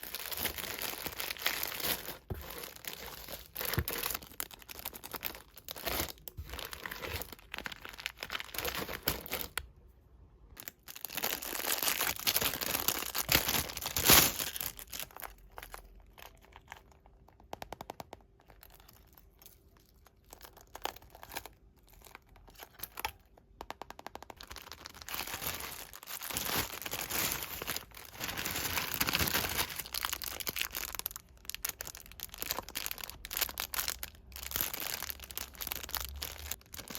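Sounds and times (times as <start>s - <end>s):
packaging crinkling and tearing: 0.0s - 9.7s, 10.6s - 36.9s.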